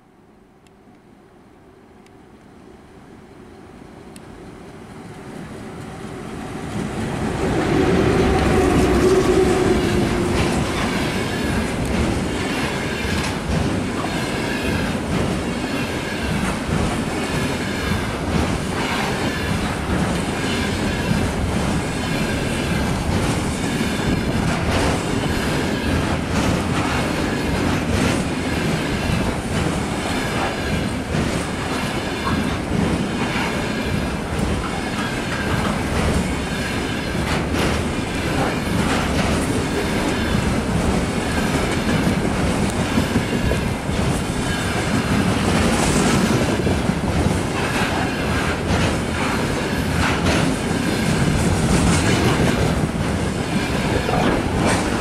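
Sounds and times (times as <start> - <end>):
electric locomotive hum: 0.1 - 55.0
train wagons rumbling: 4.6 - 55.0
wheels clacking over rail joints: 6.7 - 55.0.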